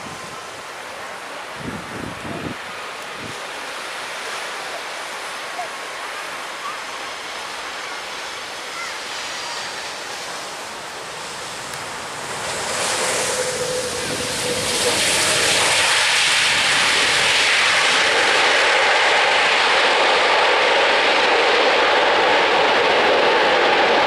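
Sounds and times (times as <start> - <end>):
jet airliner engines roaring: 0.0 - 24.0
surf washing on beach: 0.0 - 24.0.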